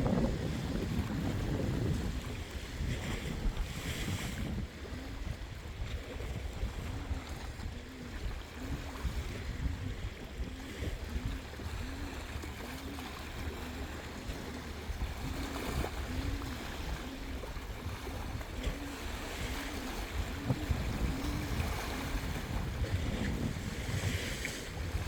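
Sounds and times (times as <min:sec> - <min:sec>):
water noise: 0:00.0 - 0:25.0
wind buffeting microphone: 0:00.0 - 0:25.0.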